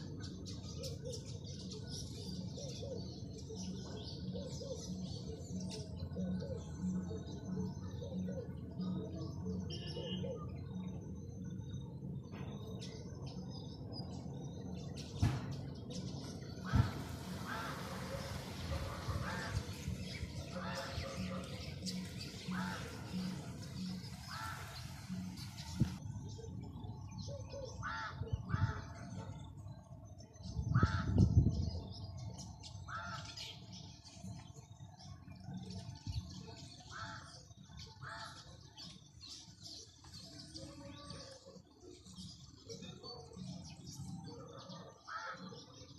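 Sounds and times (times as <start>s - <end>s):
birds chirping and calling: 0.0s - 45.9s.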